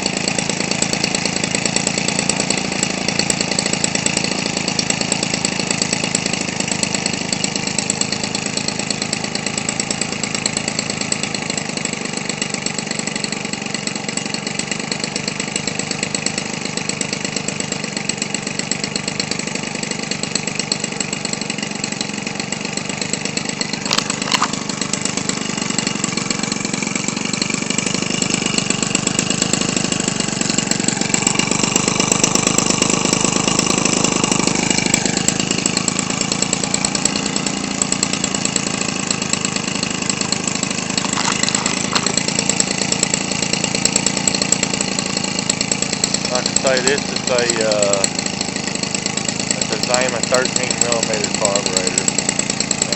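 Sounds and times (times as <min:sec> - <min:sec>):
two-stroke trimmer engine idling: 0:00.0 - 0:52.9.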